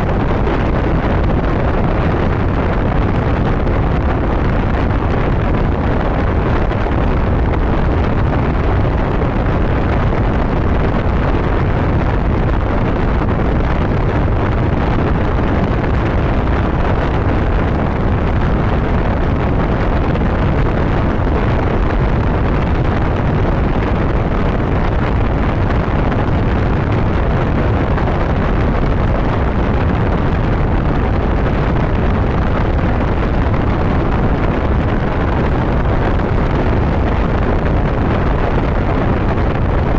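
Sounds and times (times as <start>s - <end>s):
wind rush on microphone: 0.0s - 39.9s.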